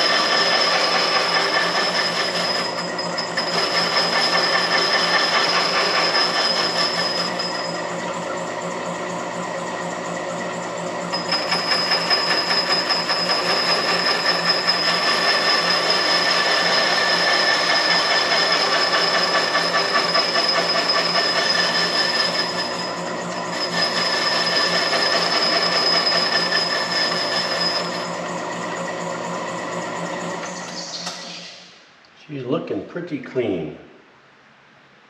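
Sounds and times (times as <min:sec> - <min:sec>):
machine high whine: 0:00.0 - 0:31.9.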